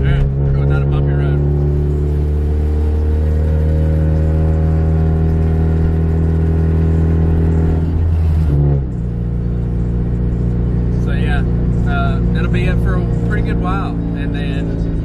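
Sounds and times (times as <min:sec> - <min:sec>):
car engine and exhaust while driving: 0:00.0 - 0:15.0.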